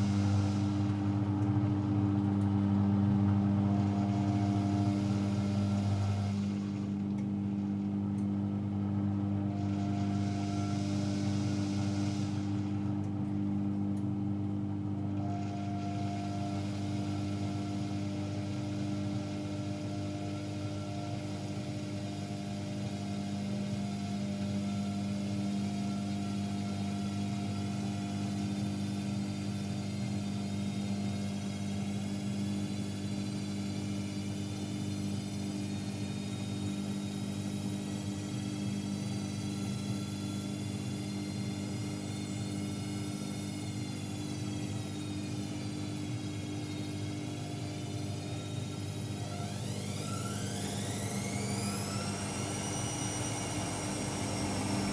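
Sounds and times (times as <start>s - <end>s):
washing machine motor humming: 0.0s - 54.9s.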